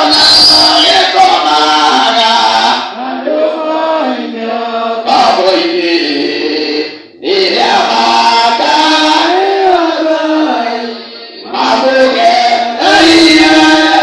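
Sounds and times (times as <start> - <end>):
voices singing a hymn: 0.0 - 14.0.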